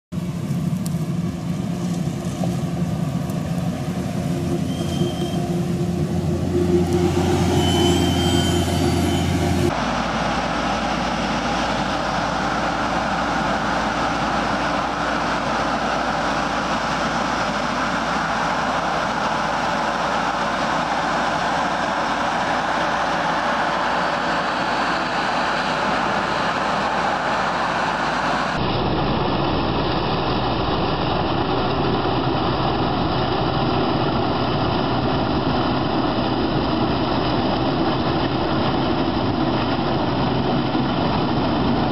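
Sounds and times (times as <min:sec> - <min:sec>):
heavy machinery engines running: 0:00.2 - 0:41.9.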